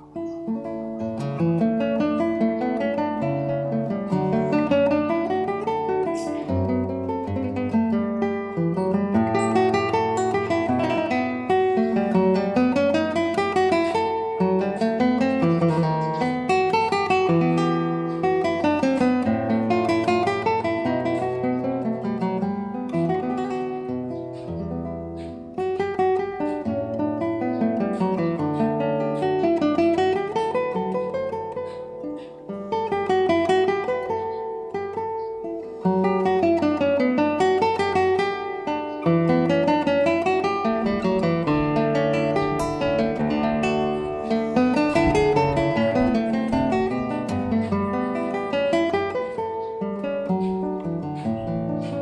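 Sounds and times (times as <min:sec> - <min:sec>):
acoustic guitar picked and strummed: 0:00.0 - 0:52.0.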